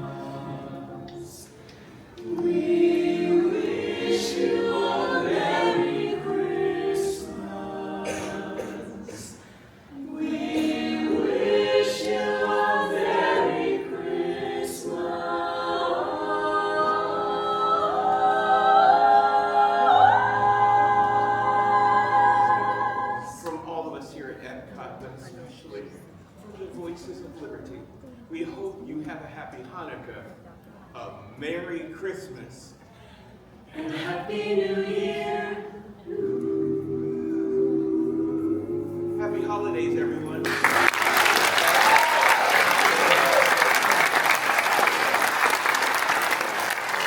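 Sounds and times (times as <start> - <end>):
a cappella ensemble singing in harmony: 0.0 - 23.8, 32.8 - 47.0.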